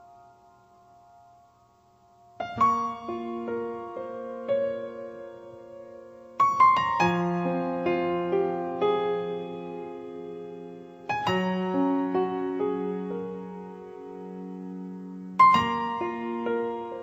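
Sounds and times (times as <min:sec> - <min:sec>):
slow solo piano: 0:02.1 - 0:17.0.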